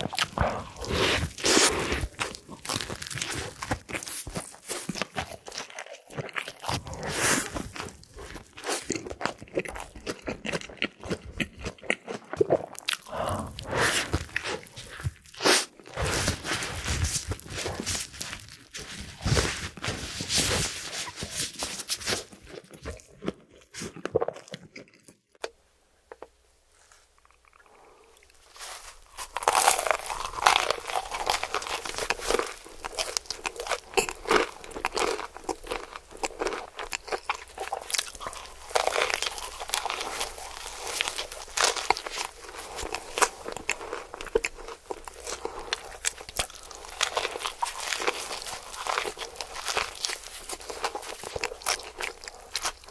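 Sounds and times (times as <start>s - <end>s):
crunchy chewing of fried chicken: 0.0s - 25.4s, 26.7s - 52.9s.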